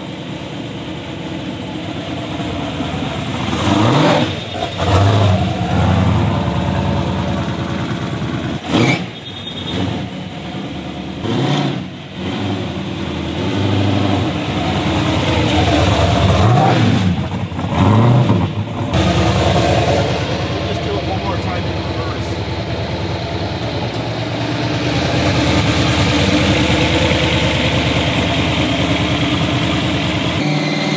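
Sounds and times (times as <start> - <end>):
car engine revving: 1.2 - 30.9.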